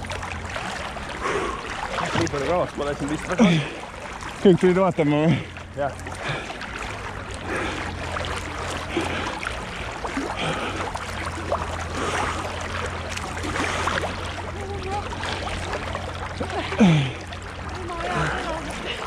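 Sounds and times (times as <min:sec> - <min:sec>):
steady low hum: 0:00.0 - 0:19.0
water sloshing and splashing: 0:00.0 - 0:19.0.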